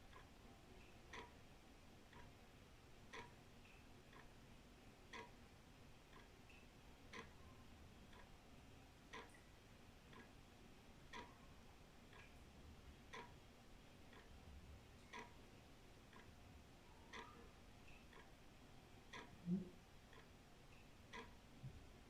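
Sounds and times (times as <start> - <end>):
wall clock ticking: 0.0 - 8.4, 9.0 - 22.0
faint background noise: 0.0 - 22.0.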